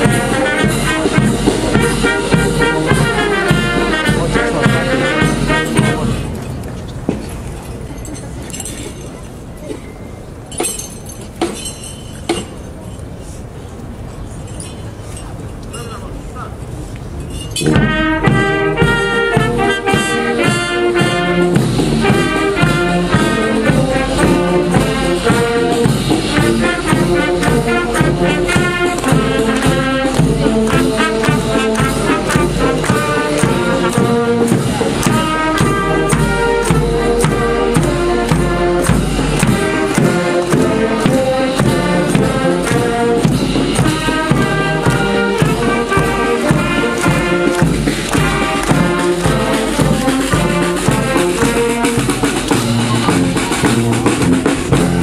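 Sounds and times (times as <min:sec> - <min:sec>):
marching brass band playing: 0:00.0 - 0:07.4, 0:17.6 - 0:55.0.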